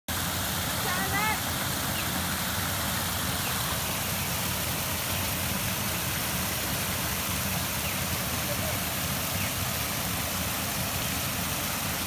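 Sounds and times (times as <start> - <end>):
water rushing over weir: 0.1 - 12.0.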